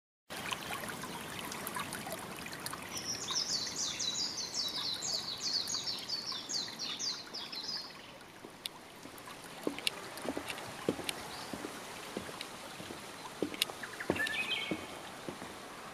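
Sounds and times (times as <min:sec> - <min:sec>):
water trickling in a stream: 0:00.3 - 0:15.9.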